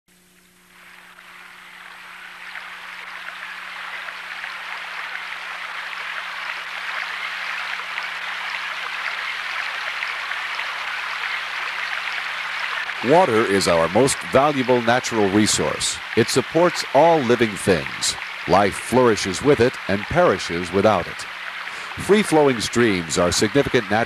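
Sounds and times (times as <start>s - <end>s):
stream water rushing: 1.2s - 24.0s.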